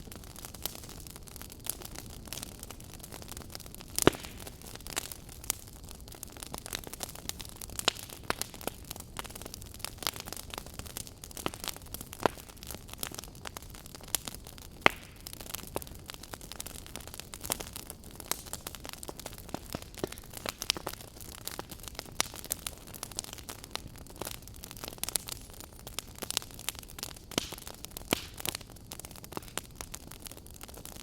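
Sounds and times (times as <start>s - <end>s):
campfire crackling and popping: 0.0s - 31.0s
fire hissing: 0.0s - 31.0s.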